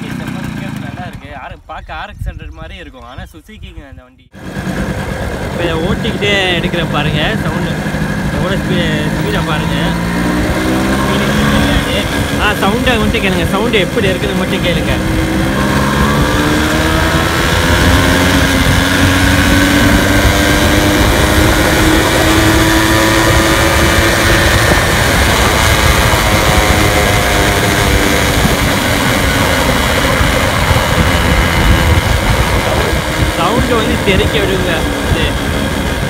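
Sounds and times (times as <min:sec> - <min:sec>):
motorcycle engine accelerating: 0:00.0 - 0:01.6, 0:04.3 - 0:36.0.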